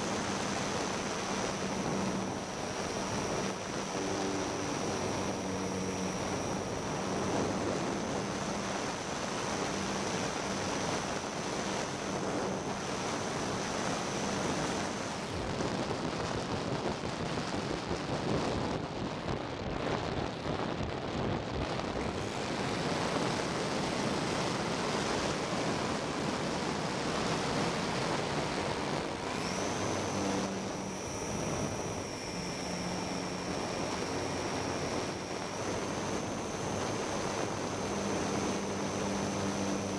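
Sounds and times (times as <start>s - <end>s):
thin motor whine: 0.0s - 39.9s
wind rushing past model aircraft: 0.0s - 39.9s.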